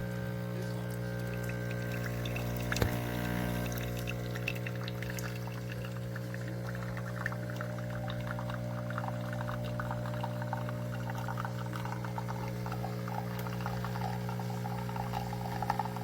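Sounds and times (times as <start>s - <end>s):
espresso pump humming: 0.0s - 16.0s
coffee streaming and sputtering: 0.4s - 16.0s.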